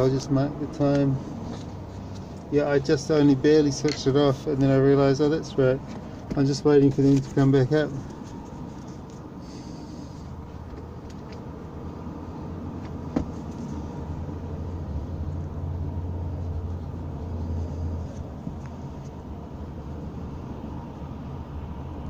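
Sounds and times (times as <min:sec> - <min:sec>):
vehicle engine and road hum: 0:00.0 - 0:22.0.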